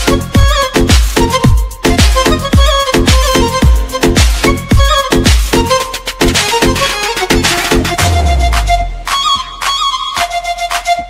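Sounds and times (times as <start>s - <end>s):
dance music: 0.0s - 11.0s.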